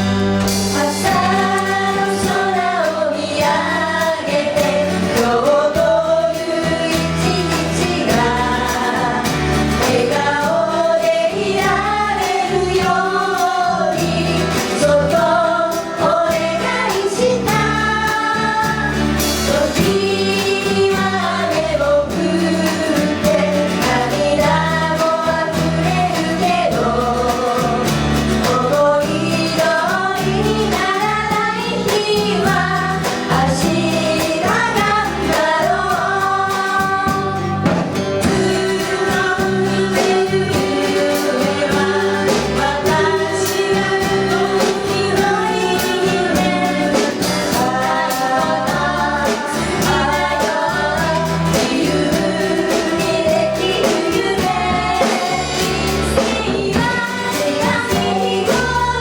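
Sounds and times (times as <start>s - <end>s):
live band playing pop song: 0.0s - 59.0s
person singing: 0.6s - 59.0s.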